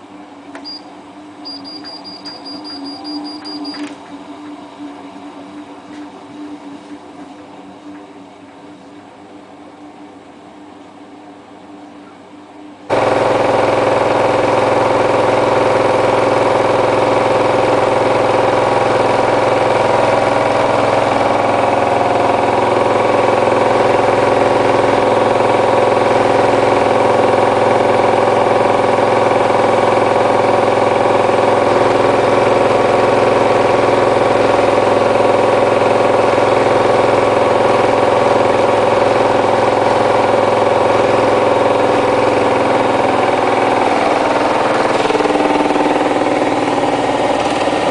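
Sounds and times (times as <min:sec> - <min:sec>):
washing machine spinning: 0:00.0 - 0:11.5, 0:12.4 - 0:47.9.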